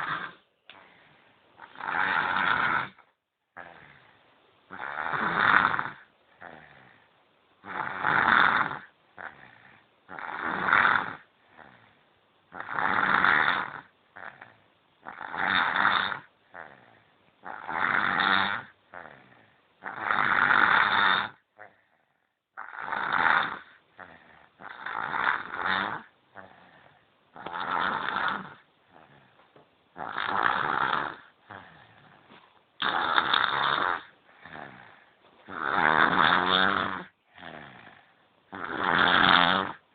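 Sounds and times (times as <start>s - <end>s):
baby snoring: 0.0s - 1.0s, 1.6s - 22.0s, 22.6s - 39.9s.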